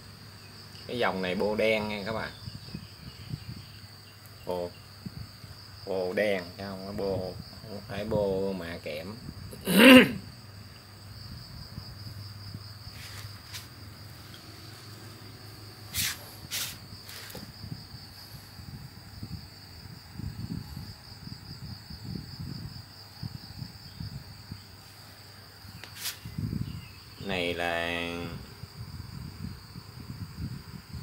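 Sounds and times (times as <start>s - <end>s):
insect trill: 0.0s - 31.0s.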